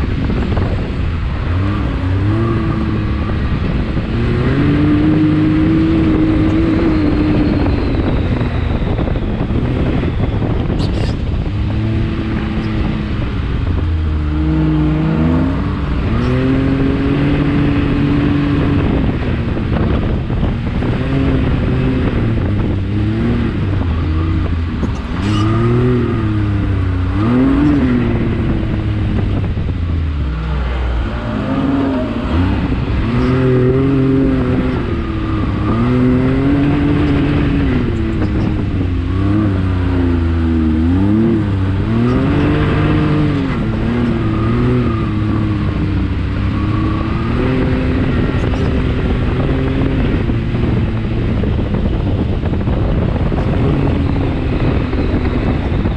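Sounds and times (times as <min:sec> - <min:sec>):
off-road vehicle engine revving: 0:00.0 - 0:55.9
wind and driving noise: 0:00.0 - 0:55.9.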